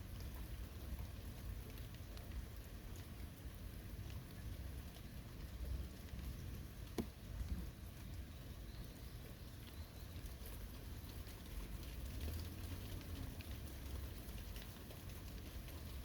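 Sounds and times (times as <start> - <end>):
raindrops ticking close by: 0.0 - 16.0
steady rain hissing: 0.0 - 16.0.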